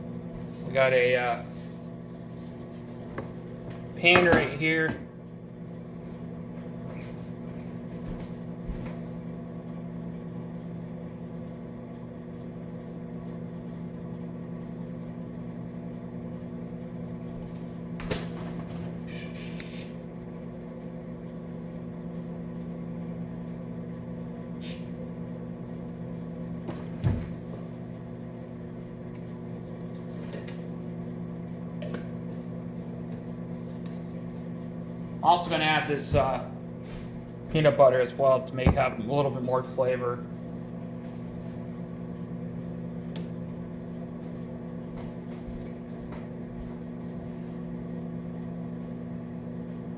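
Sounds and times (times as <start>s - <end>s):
microwave oven humming: 0.0s - 49.9s.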